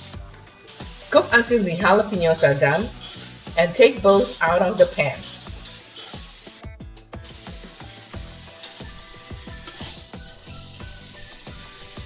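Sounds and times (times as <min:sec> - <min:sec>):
food sizzling in hot oil: 0:00.0 - 0:12.0
light background music: 0:00.0 - 0:12.0.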